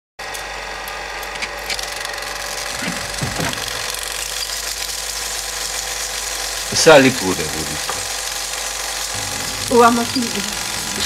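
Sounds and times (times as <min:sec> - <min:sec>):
rattling mechanical running: 0:00.5 - 0:11.0.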